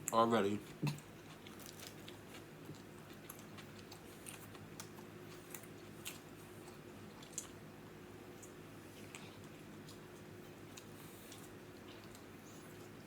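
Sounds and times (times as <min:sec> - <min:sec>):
close-up chewing: 0:00.6 - 0:13.0.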